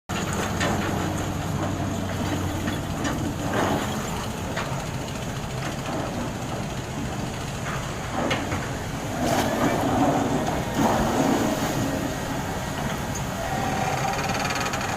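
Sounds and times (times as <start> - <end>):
drilling rig diesel engine: 0.1 - 14.9.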